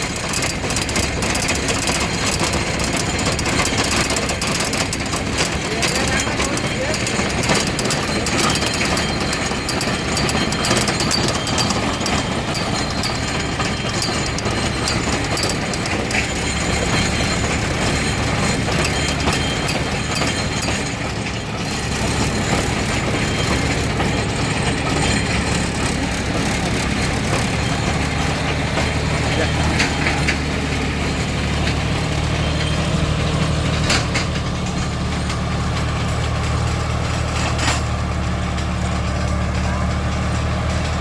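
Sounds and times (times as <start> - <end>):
machinery clatter and rattle: 0.0 - 41.0
tractor diesel engine running: 0.0 - 41.0.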